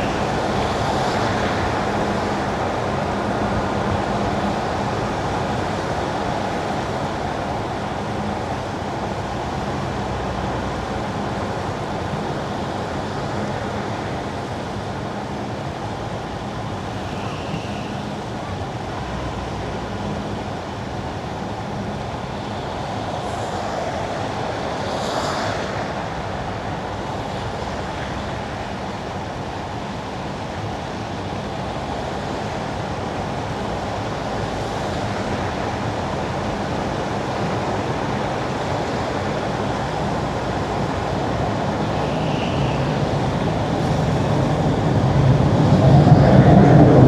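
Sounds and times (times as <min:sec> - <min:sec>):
passing traffic swish: 0:00.0 - 0:07.1, 0:08.2 - 0:30.7, 0:31.7 - 0:47.0
tyres hissing on wet asphalt: 0:00.0 - 0:08.4, 0:14.8 - 0:30.7, 0:31.6 - 0:45.0.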